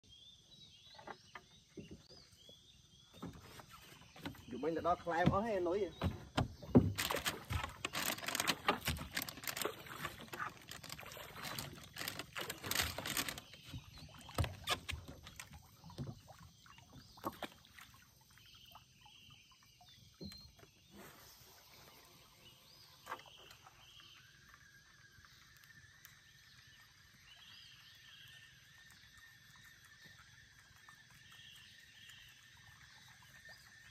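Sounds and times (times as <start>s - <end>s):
water splashing around a boat: 0.9s - 33.9s.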